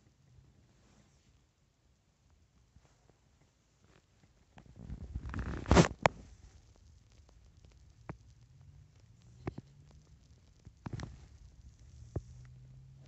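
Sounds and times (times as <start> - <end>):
faint low hum: 0.0 - 13.0
soft clicks and rustles: 2.2 - 13.0.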